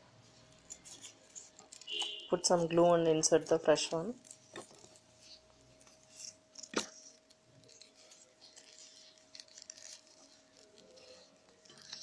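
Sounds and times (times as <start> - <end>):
newspaper rustling and crinkling: 0.2 - 12.0.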